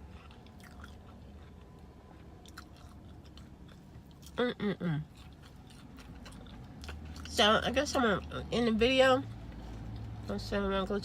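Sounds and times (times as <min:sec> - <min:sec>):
chewing food: 0:00.0 - 0:08.4, 0:09.3 - 0:10.5.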